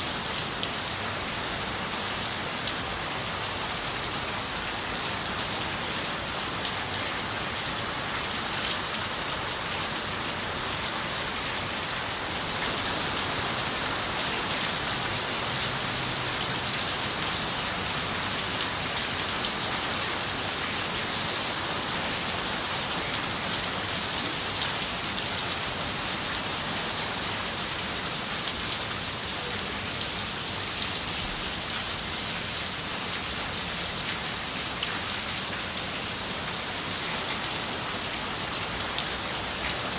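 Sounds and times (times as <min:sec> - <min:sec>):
rain on a window: 0:00.2 - 0:39.9.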